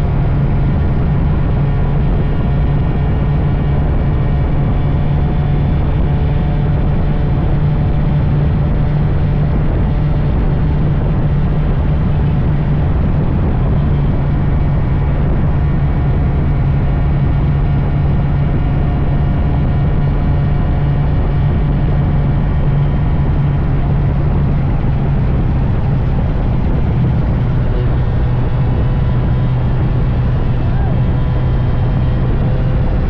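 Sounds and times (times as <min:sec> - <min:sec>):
steady rush of noise: 0:00.0 - 0:33.0.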